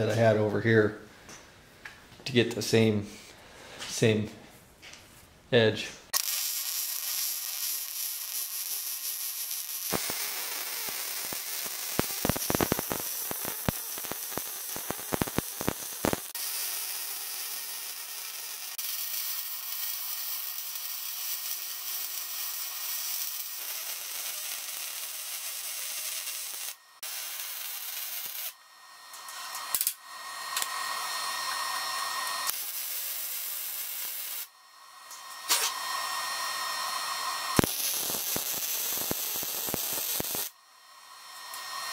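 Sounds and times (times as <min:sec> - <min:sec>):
welder arc hissing and crackling: 0:06.1 - 0:41.9.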